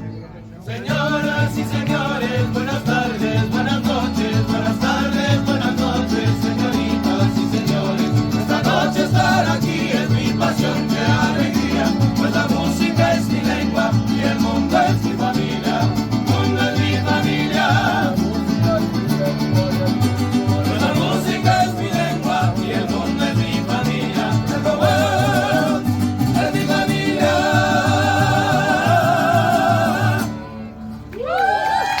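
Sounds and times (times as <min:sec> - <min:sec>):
band playing and singing: 0:00.7 - 0:30.5.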